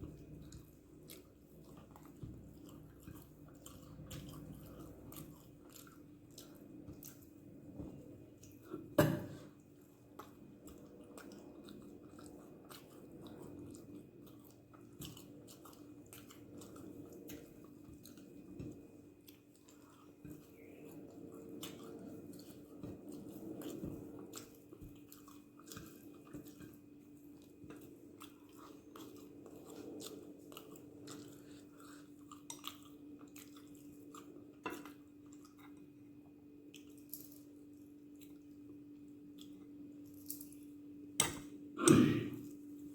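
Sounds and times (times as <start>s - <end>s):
person chewing: 0.0s - 42.9s
steady low hum: 0.0s - 42.9s.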